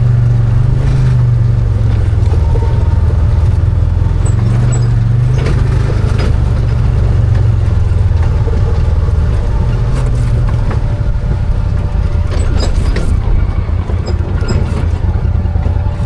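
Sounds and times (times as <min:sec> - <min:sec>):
engine running while driving: 0:00.0 - 0:16.0
vehicle rattling on rough trail: 0:00.0 - 0:16.0.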